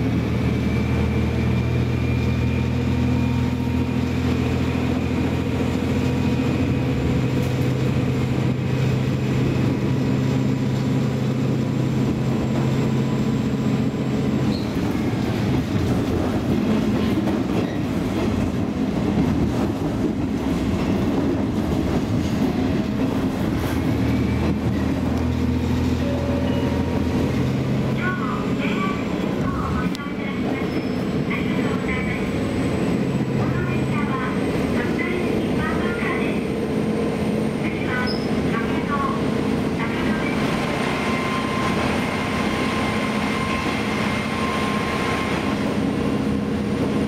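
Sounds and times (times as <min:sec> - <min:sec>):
diesel railcar engine humming: 0:00.0 - 0:47.0.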